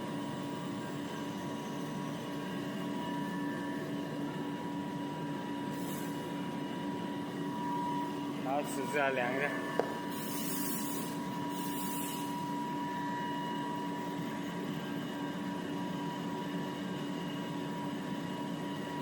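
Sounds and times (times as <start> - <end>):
machine whine: 0.0 - 19.0
machinery hum: 0.0 - 19.0.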